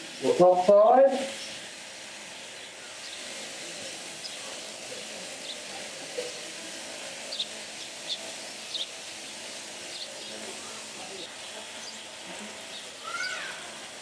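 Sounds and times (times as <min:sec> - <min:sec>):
electric shears cutting fleece: 0:00.0 - 0:14.0.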